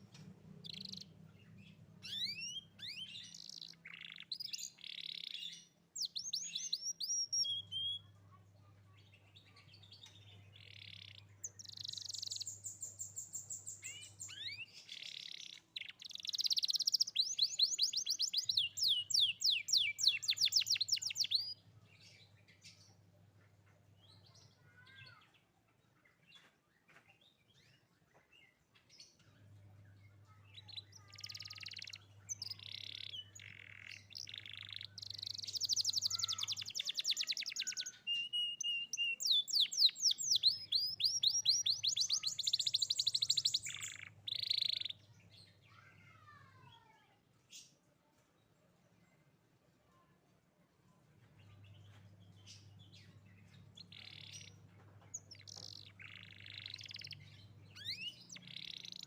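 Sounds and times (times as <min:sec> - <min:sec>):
canary singing trills: 0:00.0 - 0:25.2, 0:29.9 - 0:46.6, 0:51.4 - 0:59.0.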